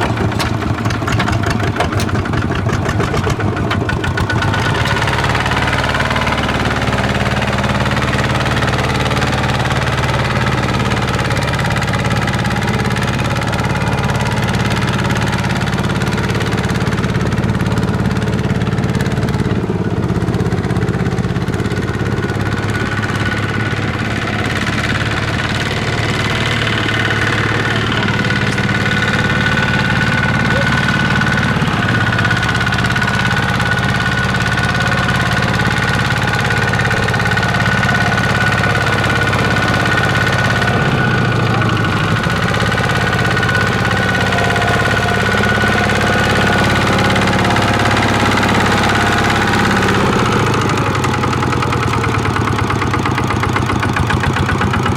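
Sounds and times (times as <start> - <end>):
farm vehicle engine running: 0.0 - 54.9.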